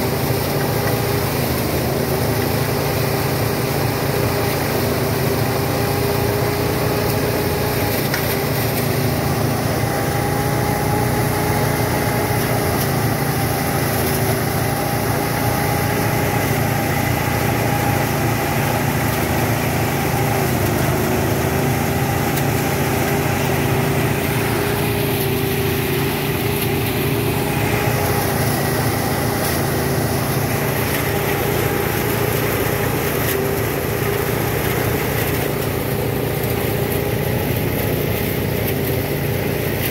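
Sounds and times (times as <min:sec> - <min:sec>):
small engine running with whine: 0:00.0 - 0:39.9.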